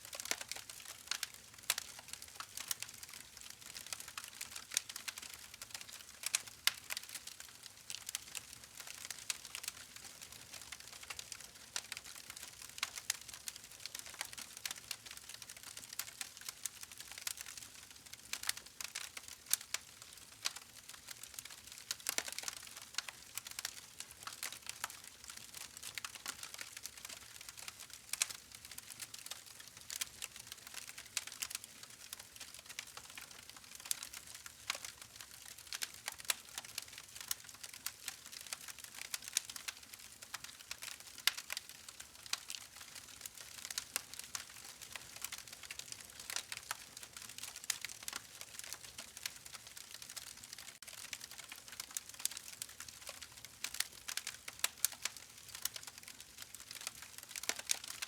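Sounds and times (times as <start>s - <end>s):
campfire crackling: 0.2s - 9.7s, 17.2s - 58.0s.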